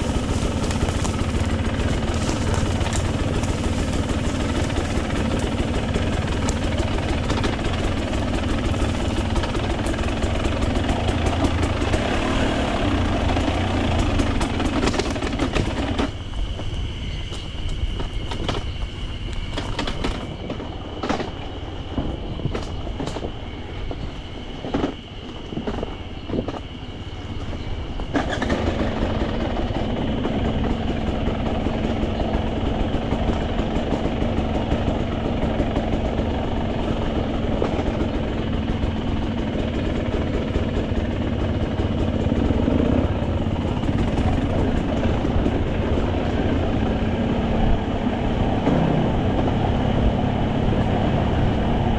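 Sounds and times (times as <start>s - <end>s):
motorcycle engine rumble: 0.0s - 51.9s.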